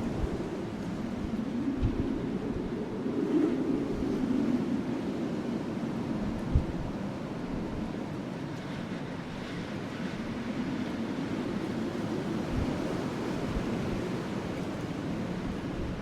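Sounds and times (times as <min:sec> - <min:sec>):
wind over wood fire: 0:00.0 - 0:16.0.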